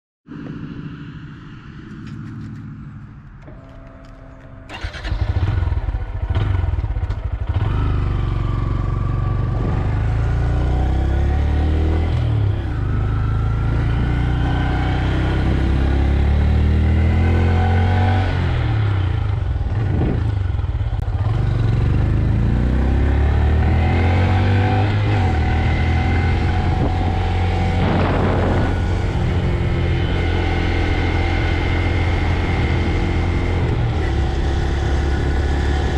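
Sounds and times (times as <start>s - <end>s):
motorcycle engine starting and revving: 0.3s - 35.9s.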